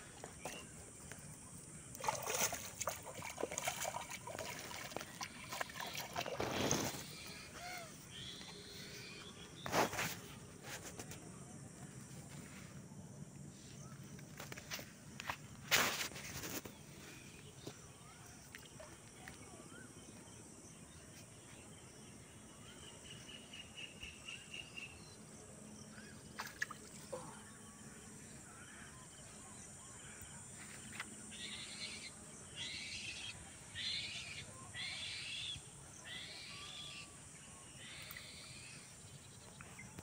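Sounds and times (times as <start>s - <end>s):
faint outdoor ambience: 0.0s - 40.0s.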